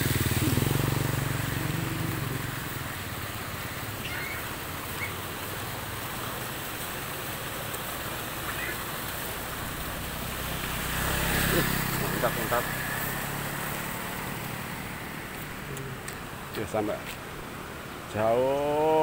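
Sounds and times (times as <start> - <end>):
low engine hum: 0.0 - 18.1
floodwater rushing: 0.0 - 19.0.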